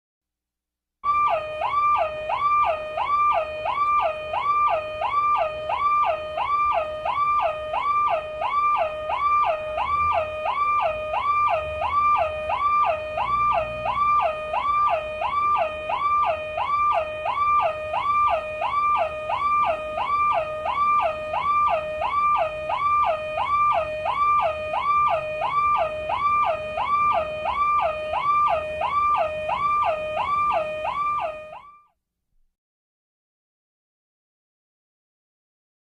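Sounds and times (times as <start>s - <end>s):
car alarm siren: 1.0s - 31.9s.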